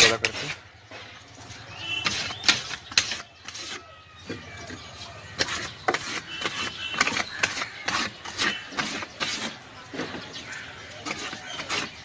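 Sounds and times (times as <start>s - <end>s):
hand scraping adhesive on metal: 0.0s - 0.7s, 1.5s - 12.0s.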